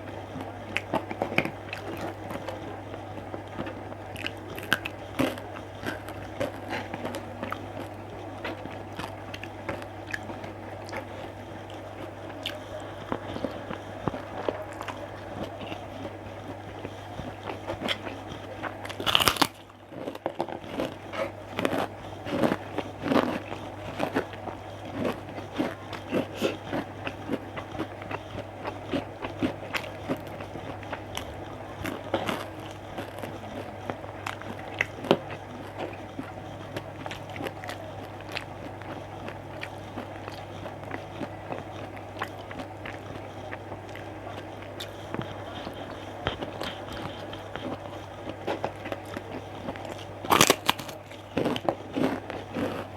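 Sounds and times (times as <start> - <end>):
chewing and crunching food: 0.0 - 52.9
steady low hum: 0.0 - 52.9.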